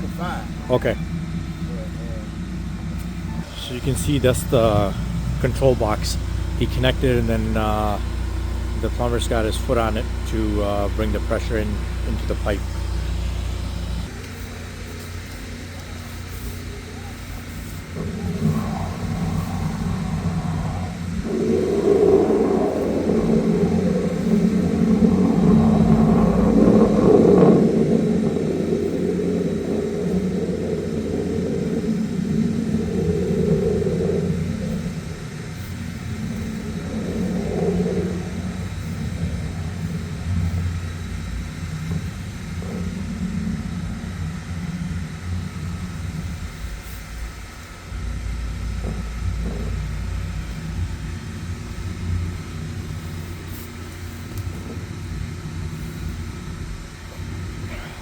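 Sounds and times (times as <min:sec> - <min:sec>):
engine-driven water pump running: 0:00.0 - 0:58.0.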